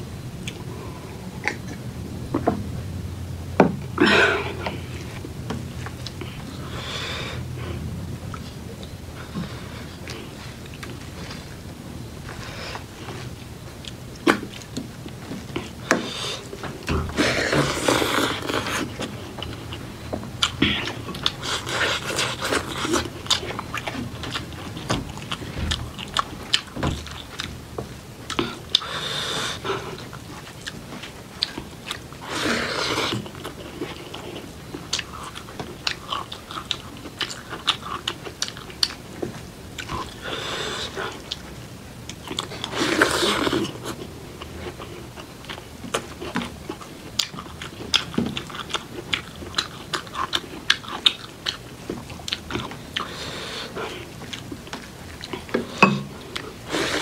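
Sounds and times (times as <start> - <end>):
person chewing food: 3.9 - 57.0.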